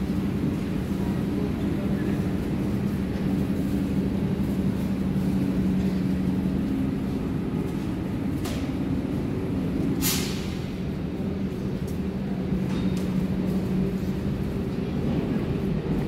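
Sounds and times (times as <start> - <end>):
train equipment low hum: 0.0 - 16.0.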